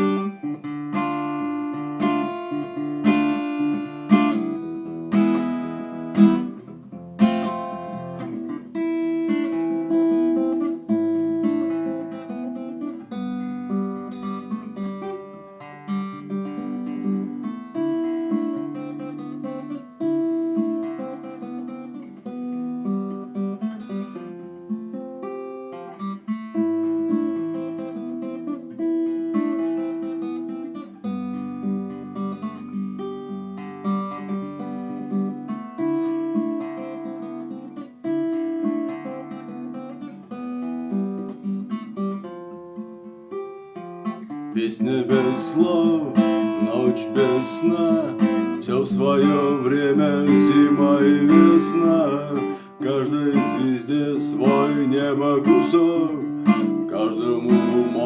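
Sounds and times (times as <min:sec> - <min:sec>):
acoustic guitar playing chords: 0:00.0 - 0:58.0.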